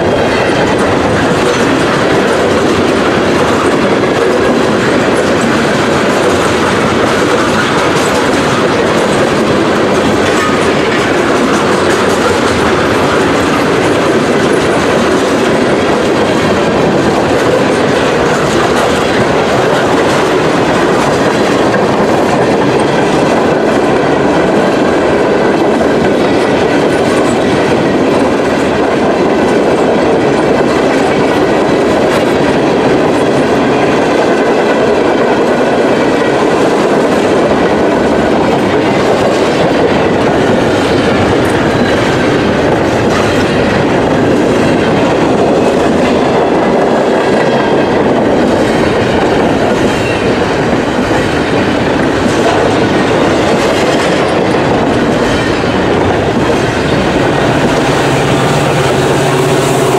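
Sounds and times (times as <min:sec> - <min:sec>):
freight train rolling past: 0:00.0 - 0:59.9
steel wheels clattering on rails: 0:00.0 - 0:59.9.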